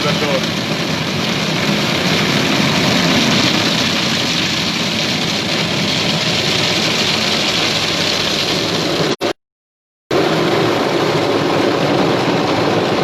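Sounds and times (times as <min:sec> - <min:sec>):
car wash machinery: 0:00.0 - 0:09.4, 0:10.1 - 0:13.0
car wash water spray: 0:00.0 - 0:09.4, 0:10.2 - 0:13.0.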